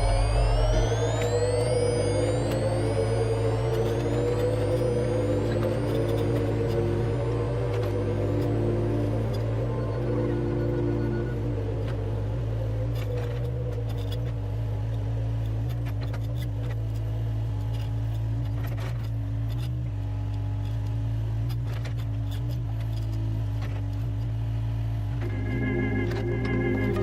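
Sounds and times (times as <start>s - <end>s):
motor hum: 0.0s - 27.0s.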